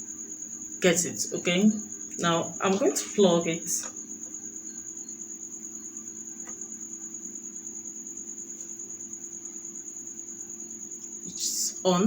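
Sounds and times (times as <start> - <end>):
cricket trilling: 0.0 - 12.0
low steady hum: 0.0 - 12.0.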